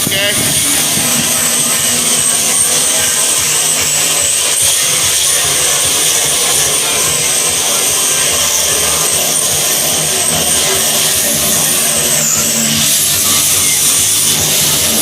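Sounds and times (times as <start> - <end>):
power tool whining: 0.0 - 15.0.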